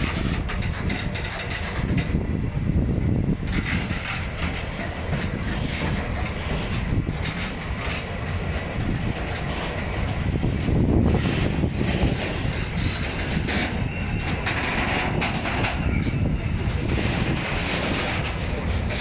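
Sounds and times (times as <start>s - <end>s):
wheel clacks: 0.0s - 2.2s, 3.5s - 19.0s
train wheels rumbling on rails: 0.0s - 19.0s.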